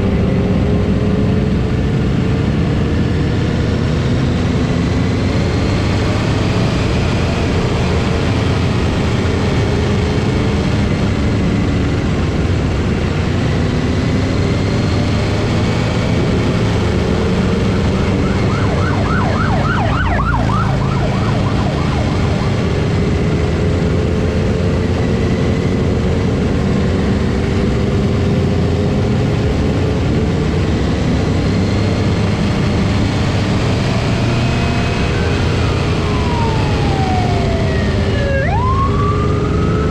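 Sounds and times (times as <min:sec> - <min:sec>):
motorcycle engines rumbling: 0:00.0 - 0:39.9
police siren wailing: 0:03.3 - 0:39.9.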